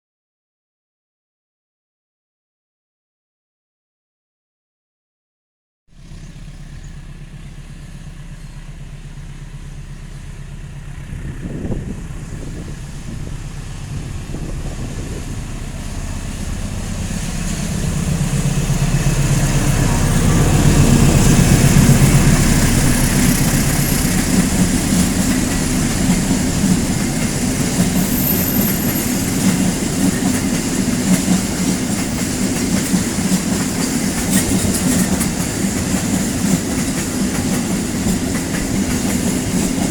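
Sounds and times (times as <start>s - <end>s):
train engine hum: 6.0s - 39.9s
wheels clattering on rails: 6.0s - 39.9s.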